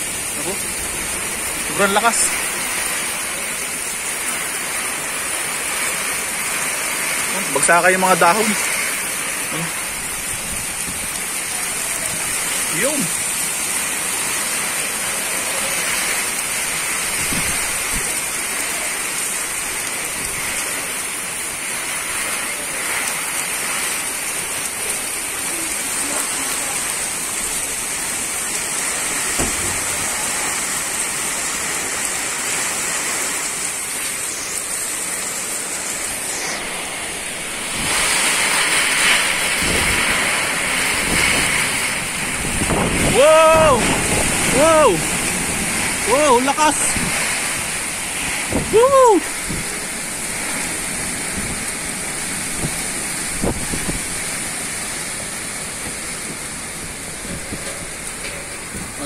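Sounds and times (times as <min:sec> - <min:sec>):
heavy rain hissing: 0:00.0 - 0:59.0
wind through trees: 0:00.0 - 0:59.0.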